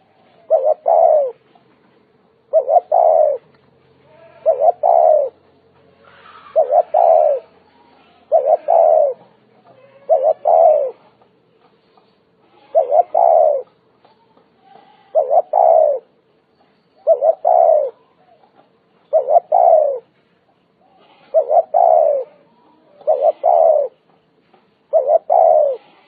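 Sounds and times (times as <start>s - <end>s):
dove cooing: 0.0s - 1.6s, 2.5s - 3.5s, 4.1s - 11.2s, 12.5s - 16.2s, 17.0s - 20.1s, 20.8s - 24.1s, 24.9s - 26.0s.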